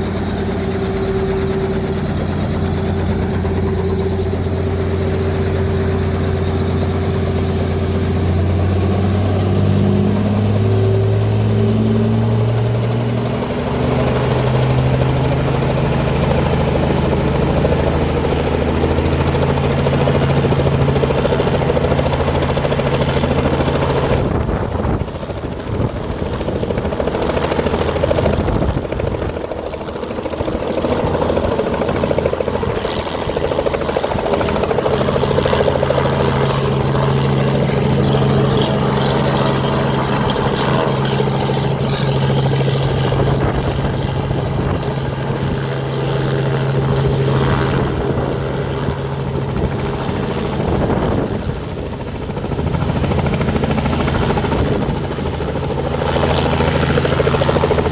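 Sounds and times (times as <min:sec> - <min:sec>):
helicopter engine and rotor: 0:00.0 - 0:57.9.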